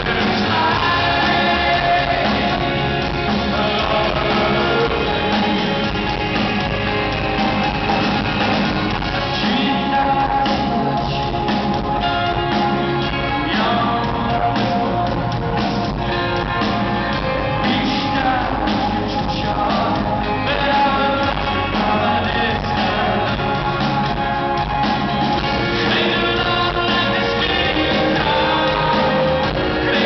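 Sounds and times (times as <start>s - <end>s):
electric guitar: 0.0s - 30.0s
keyboards: 0.0s - 30.0s
lead vocals: 0.0s - 30.0s
steady drum beat: 0.0s - 30.0s.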